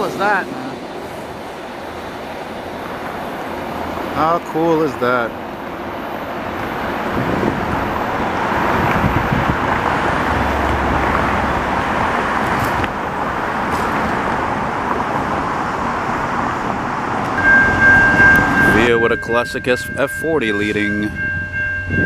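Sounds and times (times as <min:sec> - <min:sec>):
diesel engine: 0:00.0 - 0:22.0
passing train rumble: 0:00.0 - 0:22.0.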